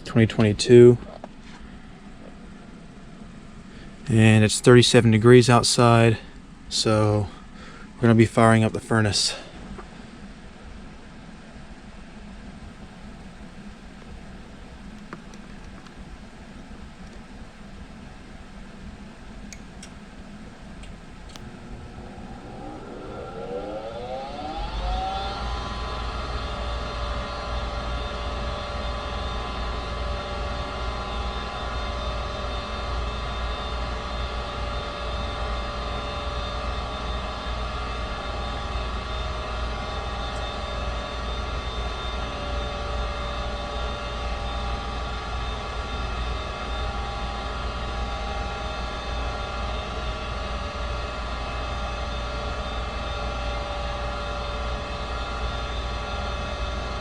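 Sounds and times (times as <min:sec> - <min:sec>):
steady humming tones: 0:00.0 - 0:10.7, 0:12.5 - 0:57.0
heater fan whirring: 0:00.0 - 0:57.0.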